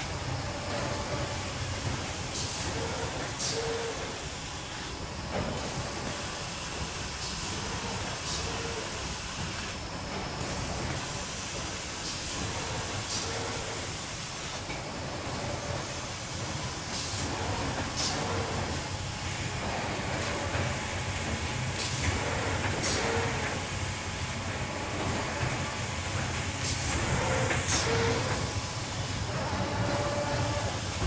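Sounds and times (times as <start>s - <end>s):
machinery running with hiss: 0.0s - 31.0s.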